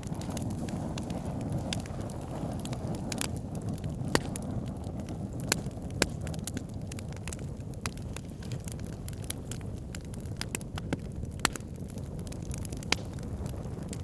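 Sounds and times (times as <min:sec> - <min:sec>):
fire flames rumbling: 0:00.0 - 0:14.0
wood fire crackling and popping: 0:00.0 - 0:14.0.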